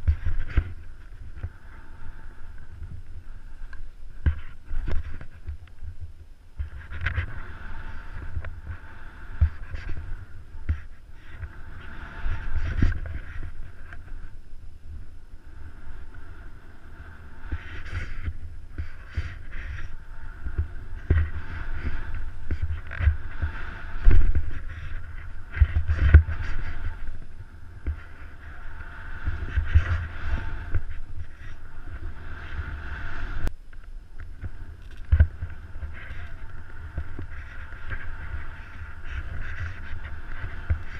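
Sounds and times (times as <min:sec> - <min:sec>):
wind buffeting microphone: 0:00.0 - 0:40.9
skis hissing through snow: 0:06.6 - 0:33.5, 0:34.5 - 0:40.9.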